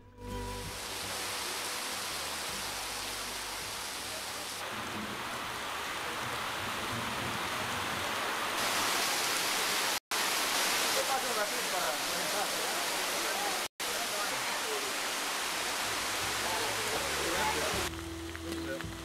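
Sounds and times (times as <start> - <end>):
heavy rain hissing: 0.3 - 19.0.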